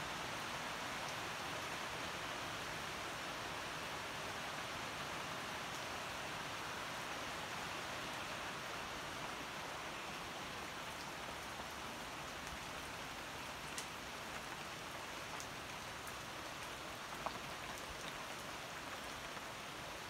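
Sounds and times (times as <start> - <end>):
rain on foliage and paving: 0.0 - 20.0.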